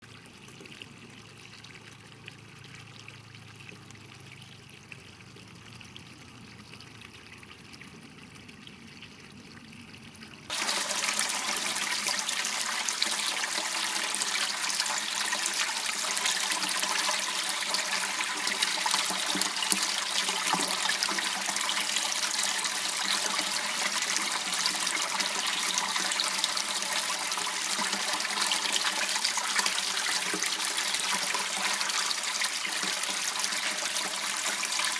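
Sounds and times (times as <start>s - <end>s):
water trickling in a channel: 0.0s - 34.9s.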